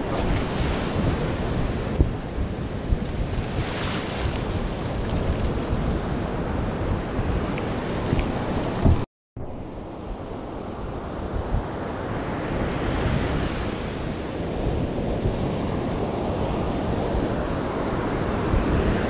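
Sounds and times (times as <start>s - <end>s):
surf washing up beach: 0.0s - 9.0s, 9.7s - 19.0s
wind buffeting microphone: 0.0s - 19.0s.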